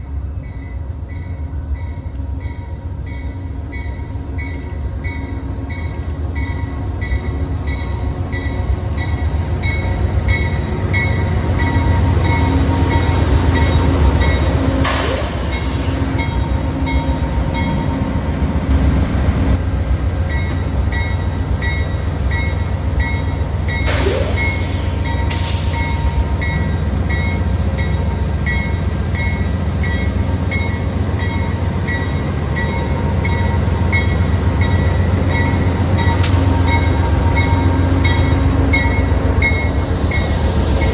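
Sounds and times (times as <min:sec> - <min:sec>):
passenger train rumbling by: 0:00.0 - 0:40.9.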